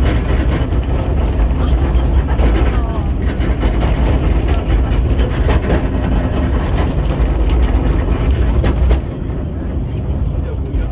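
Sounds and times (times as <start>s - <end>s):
rail clicks and rattles: 0.0s - 10.9s
train engine and wheel rumble: 0.0s - 10.9s.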